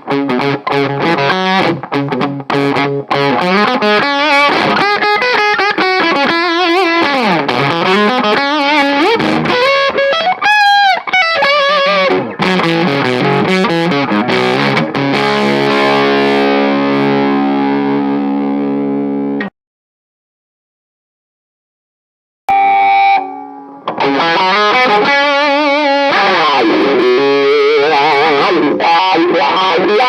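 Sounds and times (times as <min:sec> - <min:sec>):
distorted electric guitar: 0:00.0 - 0:19.5, 0:22.5 - 0:30.0.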